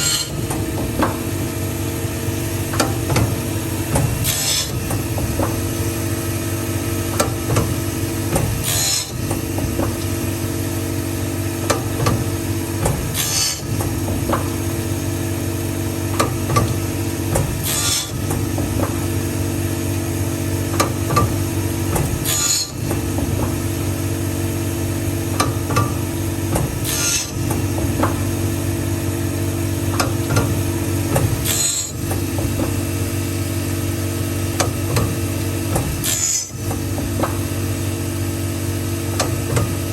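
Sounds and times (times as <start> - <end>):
steady motor hum: 0.0 - 39.9.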